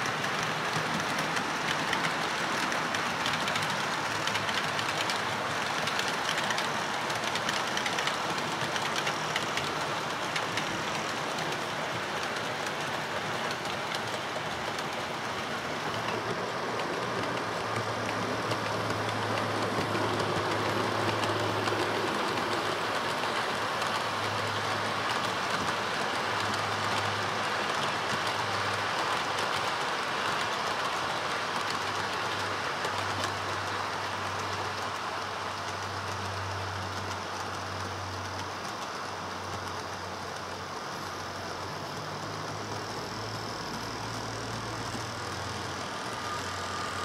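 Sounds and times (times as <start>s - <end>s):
model train wheels rattling on rail: 0.0s - 47.0s.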